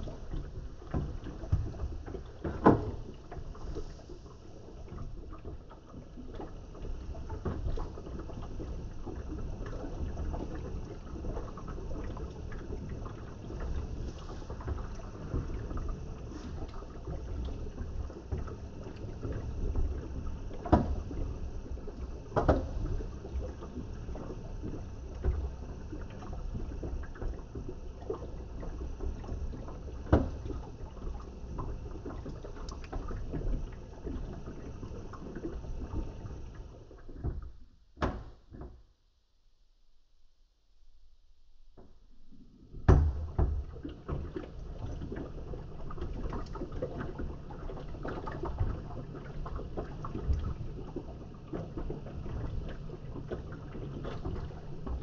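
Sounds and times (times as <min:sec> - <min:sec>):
water and laundry sloshing in drum: 0:00.0 - 0:38.9, 0:41.7 - 0:55.0.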